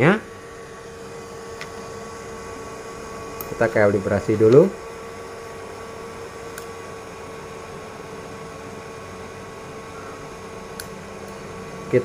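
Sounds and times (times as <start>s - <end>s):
power supply fan hissing: 0.0s - 12.0s
steady hum: 0.0s - 12.0s.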